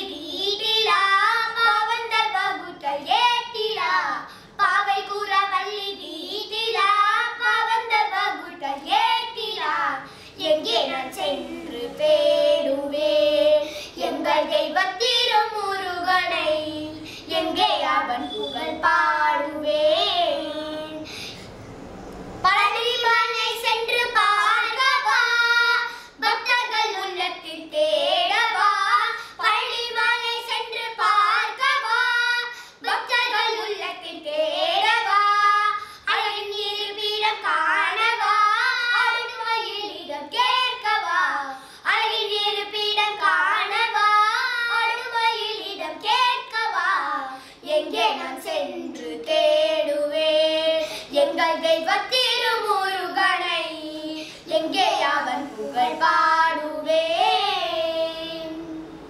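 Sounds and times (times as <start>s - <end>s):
girls singing together: 0.0s - 21.1s, 22.4s - 59.0s.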